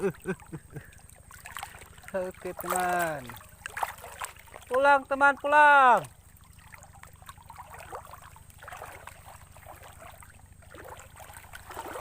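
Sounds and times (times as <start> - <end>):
stream water gurgling: 0.0 - 12.0.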